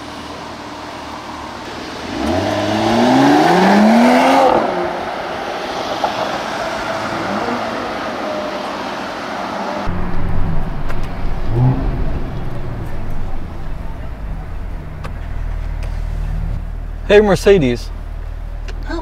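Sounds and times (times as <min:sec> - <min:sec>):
car engine accelerating: 0:00.6 - 0:19.0.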